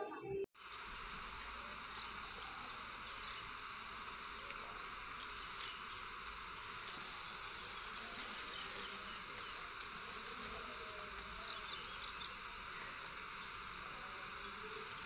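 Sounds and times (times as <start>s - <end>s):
faint hissing buzz: 0.0s - 15.0s.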